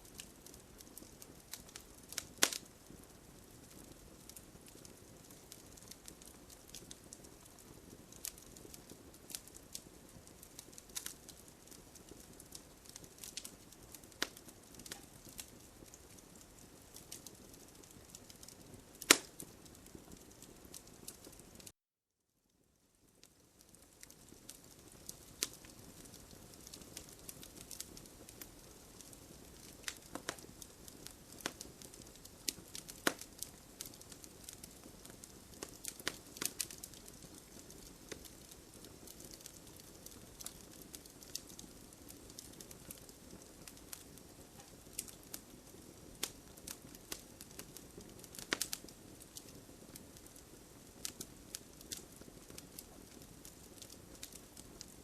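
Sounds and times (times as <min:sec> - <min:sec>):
wood fire crackling: 0:00.0 - 0:21.8, 0:22.6 - 0:55.0.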